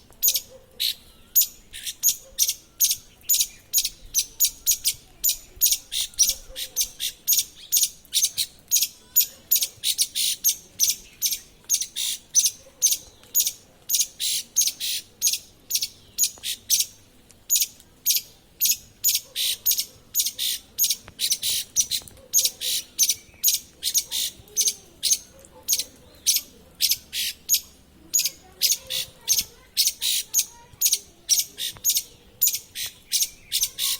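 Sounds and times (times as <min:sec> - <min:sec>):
small bird chirping: 0:00.2 - 0:33.9.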